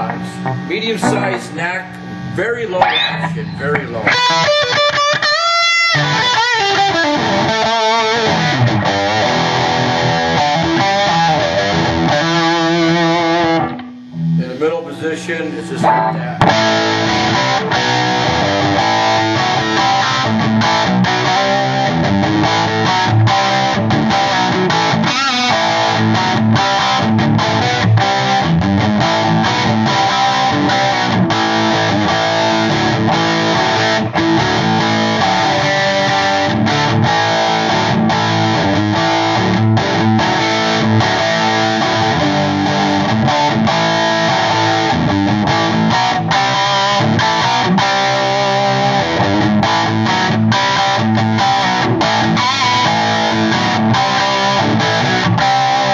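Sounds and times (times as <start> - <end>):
electric guitar notes and chords: 0.0 - 55.9.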